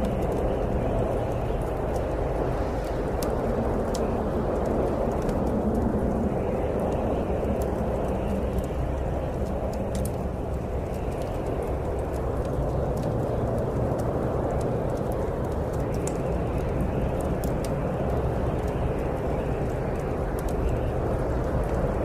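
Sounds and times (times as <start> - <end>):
snowstorm wind rushing: 0.0 - 22.0
wood fire crackling: 0.0 - 22.0.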